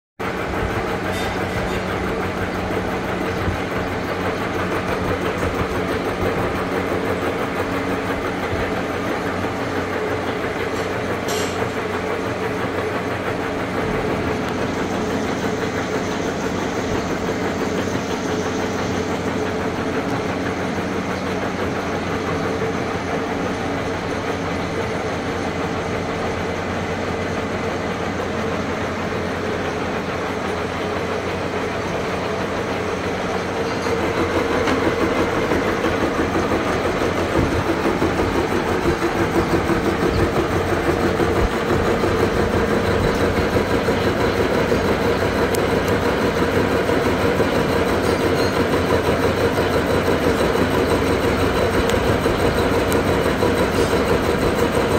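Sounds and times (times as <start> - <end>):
milling machine spindle hum: 0.2 - 54.9.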